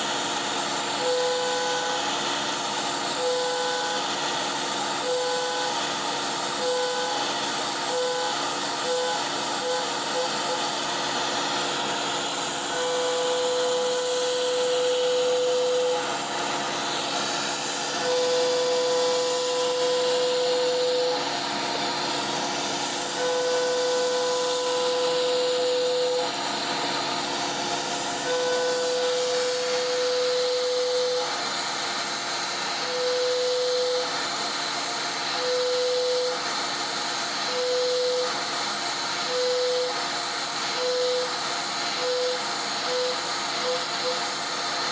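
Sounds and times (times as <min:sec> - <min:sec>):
machine hiss: 0:00.0 - 0:44.9
router spindle cutting hum: 0:00.0 - 0:44.9.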